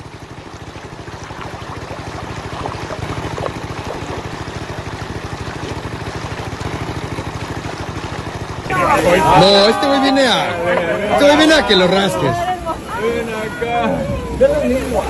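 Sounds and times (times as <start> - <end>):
small boat motor running: 0.0 - 15.0
water splashing: 0.0 - 15.0.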